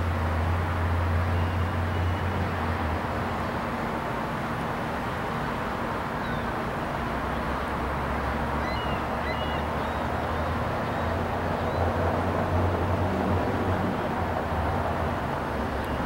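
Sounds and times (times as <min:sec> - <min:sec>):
distant engines rumbling: 0:00.0 - 0:16.0.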